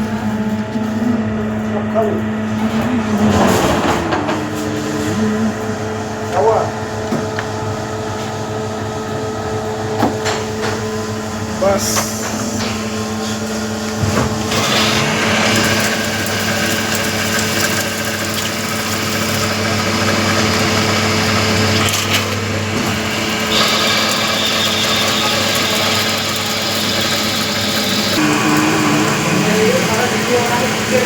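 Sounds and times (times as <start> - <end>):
cnc machine cutting: 0.0 - 31.0.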